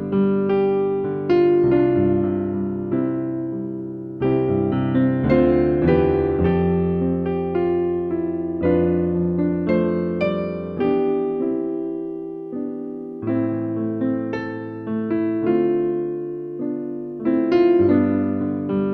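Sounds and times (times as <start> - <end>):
slow piano chords: 0.0 - 18.9.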